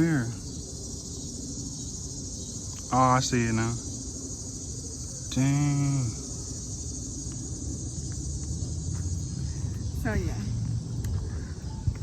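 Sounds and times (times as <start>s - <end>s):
cricket chorus chirring: 0.0s - 12.0s.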